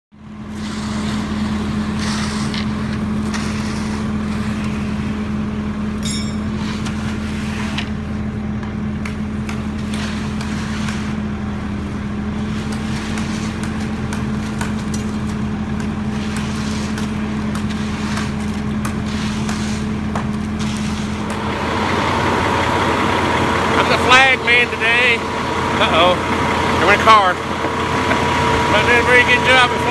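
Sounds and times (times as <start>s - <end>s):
diesel engine humming: 0.1s - 29.9s.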